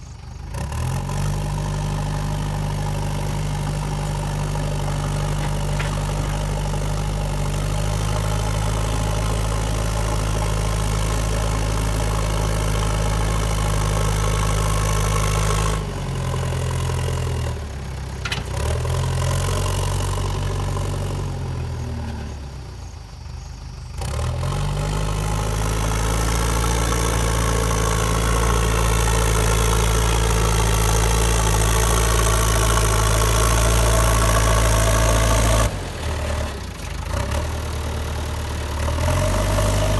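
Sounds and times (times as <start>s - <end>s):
diesel engine revving: 0.1s - 39.9s.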